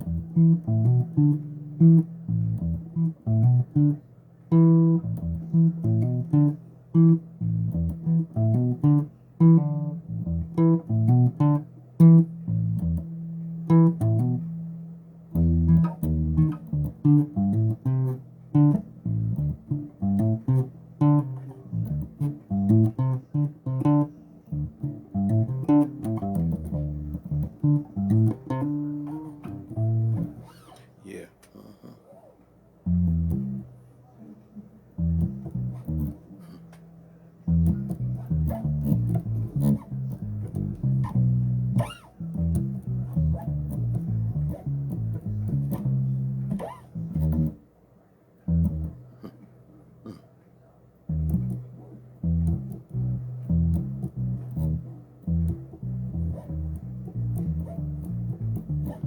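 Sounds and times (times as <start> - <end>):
bass guitar plucked notes: 0.0 - 30.8, 32.8 - 33.7, 34.9 - 36.7, 37.4 - 47.6, 48.5 - 49.1, 51.1 - 59.0.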